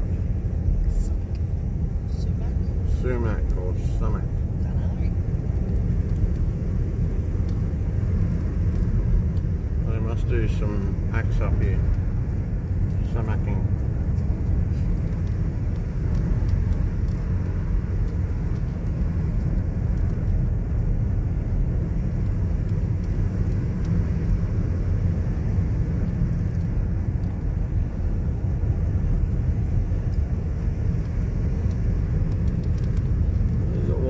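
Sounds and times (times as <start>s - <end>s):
car interior road rumble: 0.0s - 34.0s.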